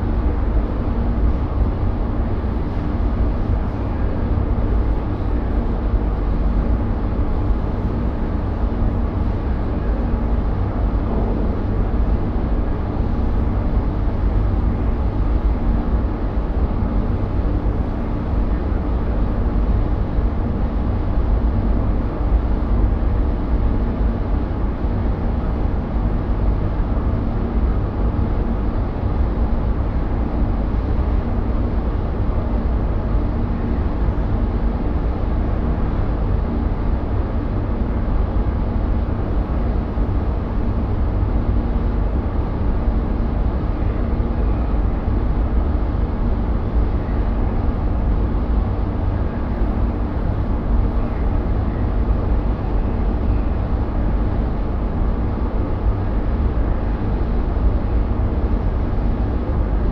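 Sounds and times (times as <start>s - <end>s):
faint hum tones: 0.0s - 59.9s.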